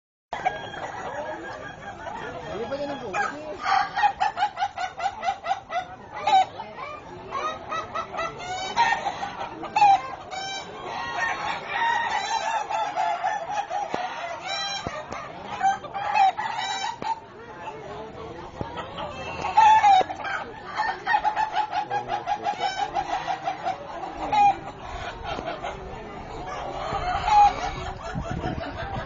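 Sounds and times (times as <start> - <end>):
roosters crowing: 0.3 - 17.3, 18.9 - 29.0.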